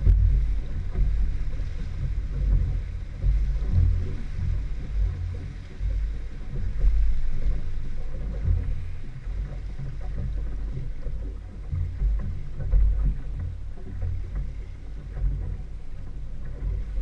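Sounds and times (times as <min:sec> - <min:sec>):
outboard motor running: 0:00.0 - 0:17.0
water wash: 0:00.0 - 0:17.0.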